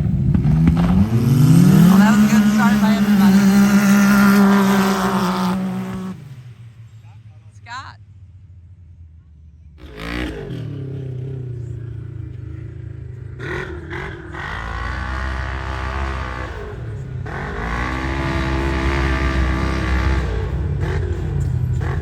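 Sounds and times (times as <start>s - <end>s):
vehicle engine revving: 0.0s - 7.2s, 9.6s - 22.0s.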